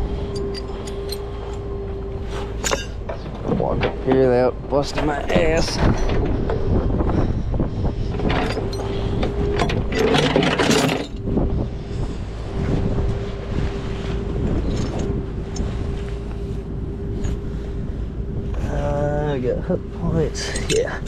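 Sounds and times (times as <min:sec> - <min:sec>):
idling vehicle hum: 0:00.0 - 0:21.0
wind buffeting microphone: 0:00.0 - 0:21.0.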